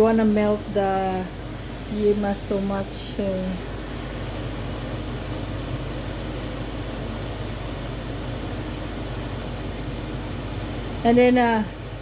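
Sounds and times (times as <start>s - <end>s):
fan humming and hissing: 0.0s - 12.0s.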